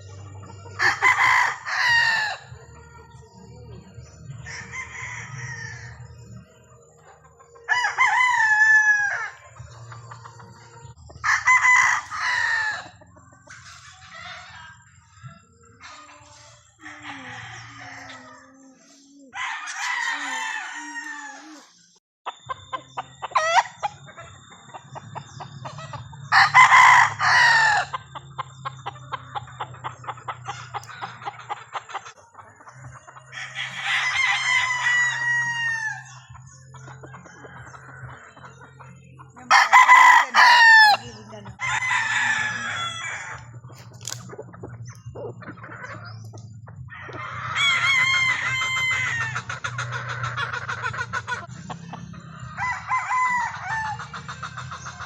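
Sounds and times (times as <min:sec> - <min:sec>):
roosters crowing: 0:00.0 - 0:46.2, 0:46.9 - 0:55.0
chickens clucking: 0:00.0 - 0:55.0.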